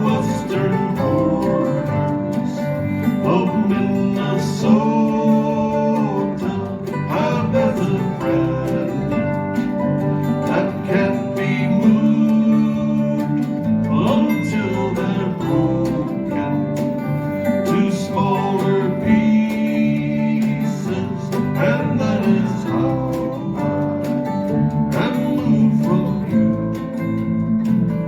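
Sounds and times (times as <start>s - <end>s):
acoustic folk band playing: 0.0s - 28.0s.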